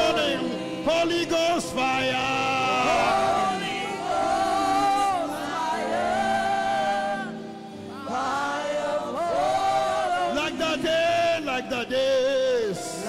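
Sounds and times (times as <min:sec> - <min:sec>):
gospel worship singing: 0:00.0 - 0:13.0
musical accompaniment: 0:00.0 - 0:13.0.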